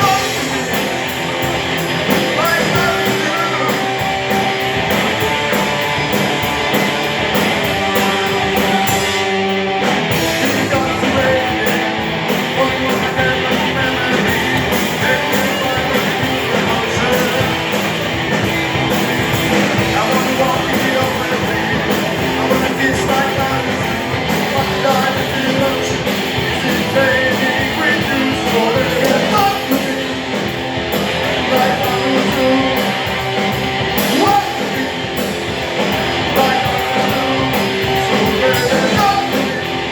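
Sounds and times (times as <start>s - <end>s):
guitar: 0.0s - 39.9s
rock band playing live: 0.0s - 39.9s
steady drum beat: 0.0s - 39.9s.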